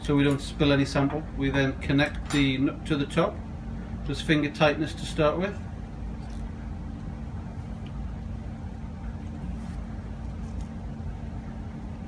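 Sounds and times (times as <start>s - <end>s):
equipment hum with faint tone: 0.0s - 12.0s.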